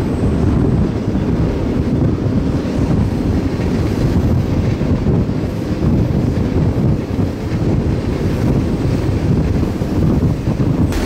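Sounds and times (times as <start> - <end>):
freight train rumble: 0.0 - 11.0
wind buffeting microphone: 0.0 - 11.0.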